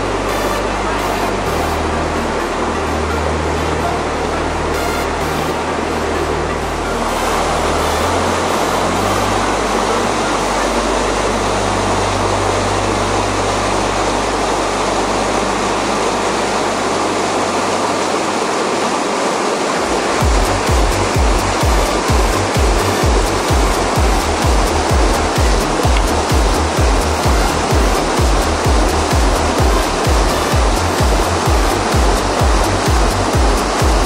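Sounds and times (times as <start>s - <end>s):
music with bass and beat: 0.0s - 16.3s, 20.1s - 34.0s
rushing whitewater: 0.0s - 34.0s.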